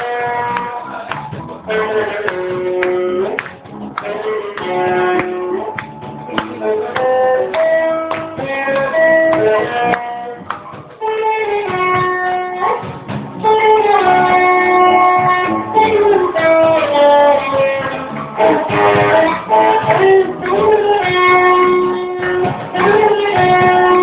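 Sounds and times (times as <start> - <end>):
plucked guitar: 0.0 - 24.0.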